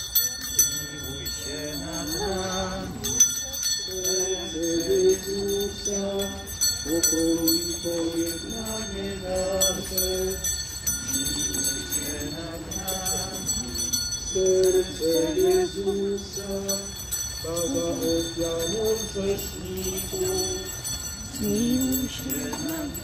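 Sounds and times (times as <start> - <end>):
crowd singing a hymn: 0.0 - 23.0
hand bells jingling: 0.0 - 23.0.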